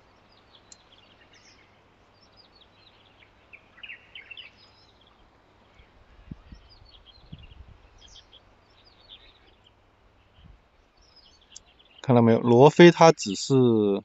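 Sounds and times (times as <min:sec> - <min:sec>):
light steady hiss: 0:00.0 - 0:14.0
small birds chirping: 0:00.0 - 0:14.0.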